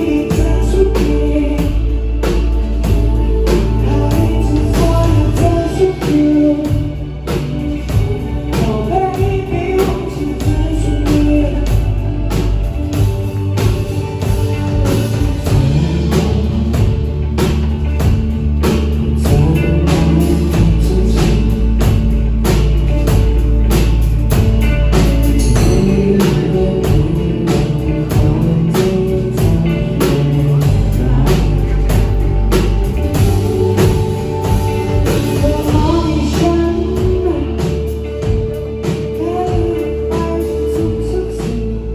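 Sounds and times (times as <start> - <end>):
bass guitar: 0.0 - 41.9
drum kit: 0.0 - 41.9
guitar: 0.0 - 41.9
person singing: 0.0 - 41.9.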